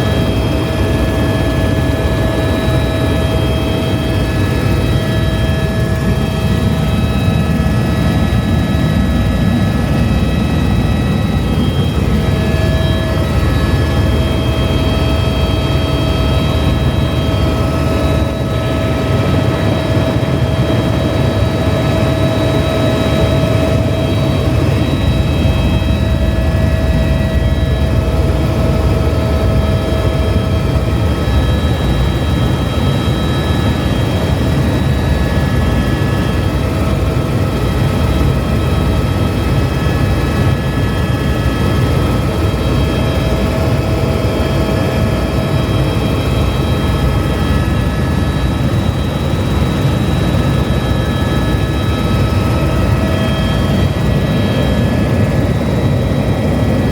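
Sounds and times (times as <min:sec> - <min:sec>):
turbine whine: 0:00.0 - 0:56.9
helicopter rotor thrum: 0:00.1 - 0:56.9.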